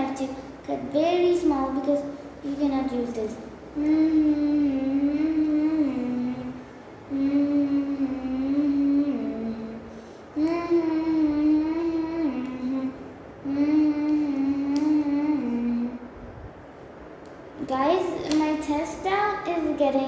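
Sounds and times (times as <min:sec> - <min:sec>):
child singing wordless notes: 0:00.0 - 0:16.2, 0:17.6 - 0:20.0.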